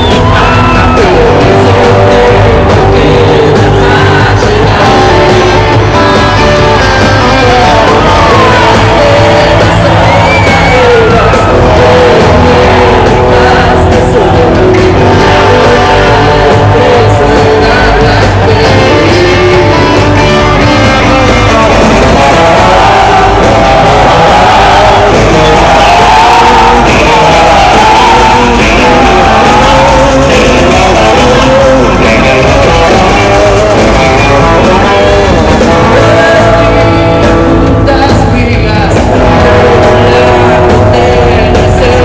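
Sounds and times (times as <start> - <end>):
electric guitar: 0.0 - 42.0
live rock band playing: 0.0 - 42.0
person singing: 0.0 - 42.0.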